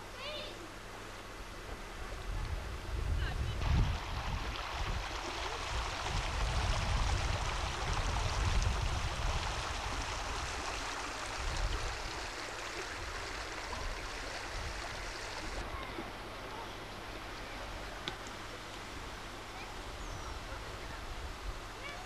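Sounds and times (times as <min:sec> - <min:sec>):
river water flowing: 0:03.6 - 0:22.0.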